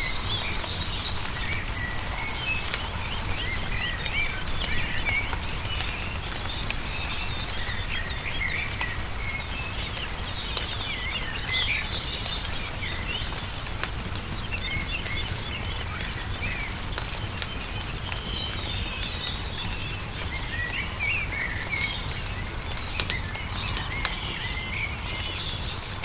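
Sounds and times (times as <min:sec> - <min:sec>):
small songbirds chirping: 0:00.0 - 0:26.0
wood fire popping and crackling: 0:00.0 - 0:26.0.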